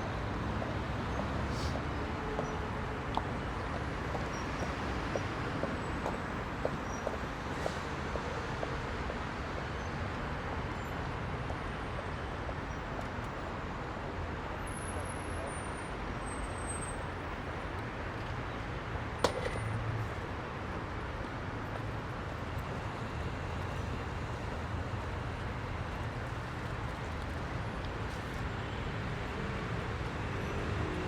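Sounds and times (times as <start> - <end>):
road traffic rumble: 0.0 - 10.6, 11.2 - 31.0.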